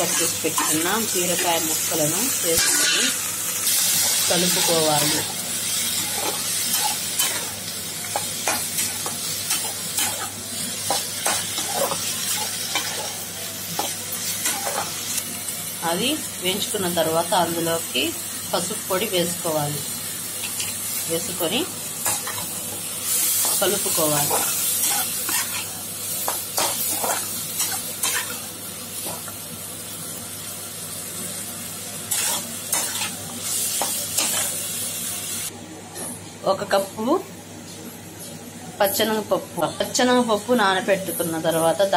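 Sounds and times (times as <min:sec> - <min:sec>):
vegetables sizzling in oil: 0:00.0 - 0:35.6, 0:38.2 - 0:41.9.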